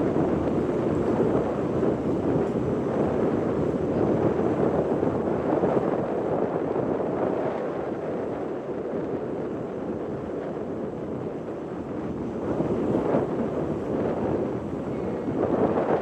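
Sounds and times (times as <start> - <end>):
rush of ferry and sea: 0.0 - 16.0
wind buffeting microphone: 0.0 - 16.0.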